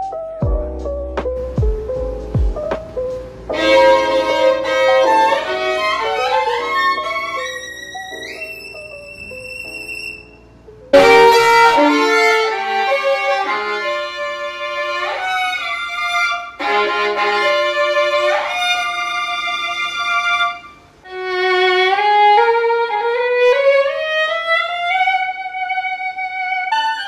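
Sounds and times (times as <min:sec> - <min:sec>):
solo violin playing: 0:03.5 - 0:27.0.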